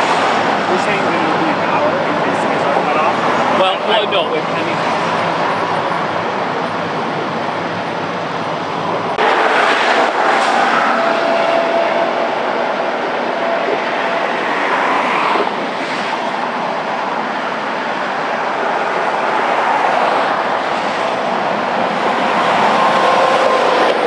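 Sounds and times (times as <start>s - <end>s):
freeway traffic rushing: 0.0s - 24.0s.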